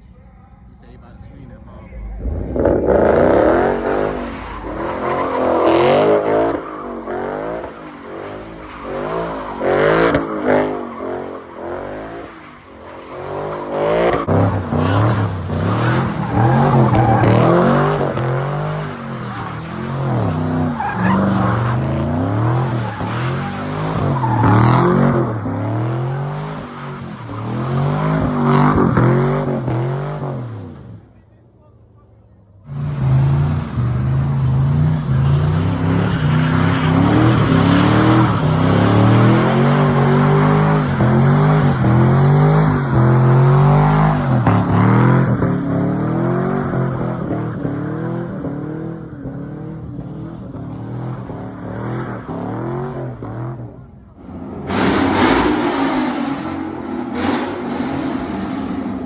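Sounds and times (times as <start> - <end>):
car engine revving hard: 2.1 - 12.3, 13.2 - 30.9, 32.7 - 49.8, 54.3 - 59.0.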